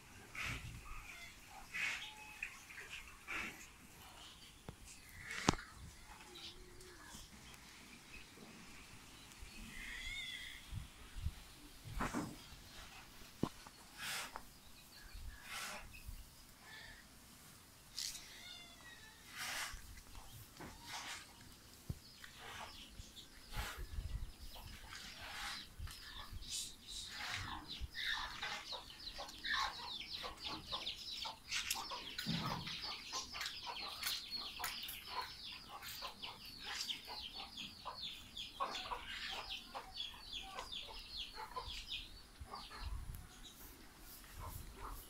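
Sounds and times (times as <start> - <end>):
birds chirping and clucking: 0.0 - 18.3, 19.2 - 45.0.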